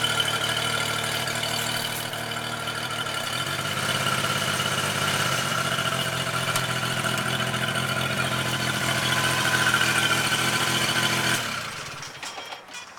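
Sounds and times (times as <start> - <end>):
small engine idling: 0.0 - 12.2.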